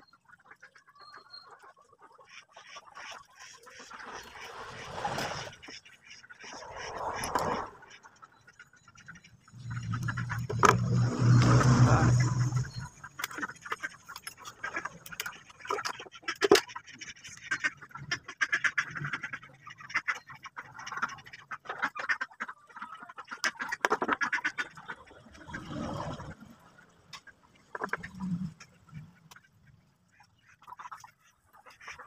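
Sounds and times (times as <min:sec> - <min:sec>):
ducks quacking: 0:00.1 - 0:25.9, 0:26.7 - 0:32.0.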